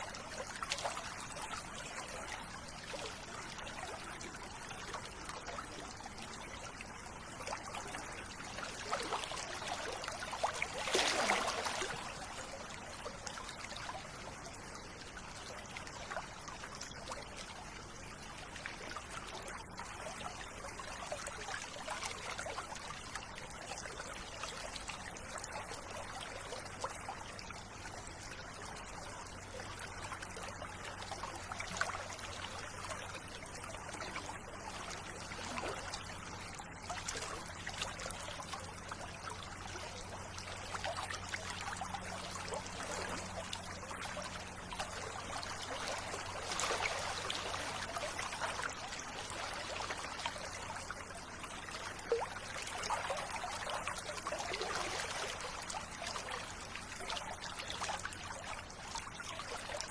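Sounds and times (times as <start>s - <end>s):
river water running: 0.0s - 59.9s.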